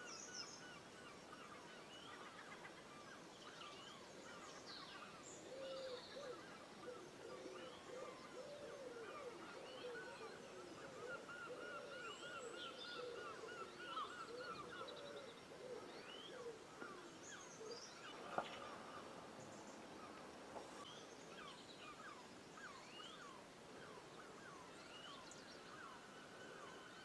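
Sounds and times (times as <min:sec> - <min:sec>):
birds calling and chirping: 0:00.0 - 0:27.0.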